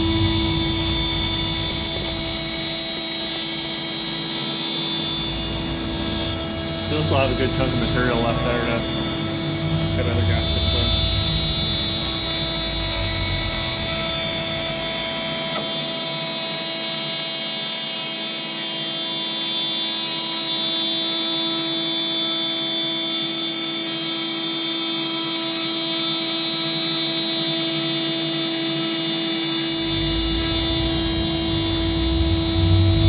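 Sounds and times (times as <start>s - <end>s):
router spindle whining: 0.0s - 33.0s.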